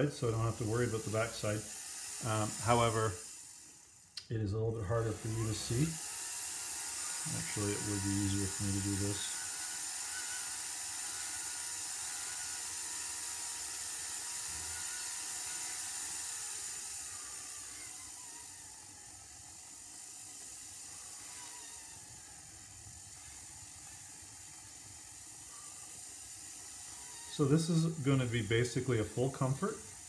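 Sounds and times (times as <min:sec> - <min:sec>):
rotary tool whirring: 0:00.0 - 0:04.2, 0:04.8 - 0:30.0.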